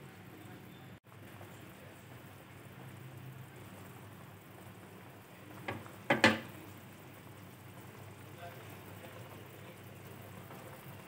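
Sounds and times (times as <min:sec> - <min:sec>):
soup bubbling: 0:01.0 - 0:11.0.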